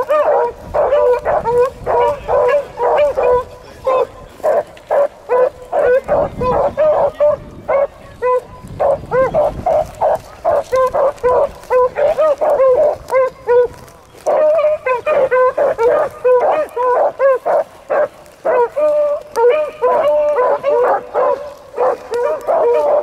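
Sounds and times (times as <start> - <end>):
dogs barking rapidly: 0.0 - 23.0.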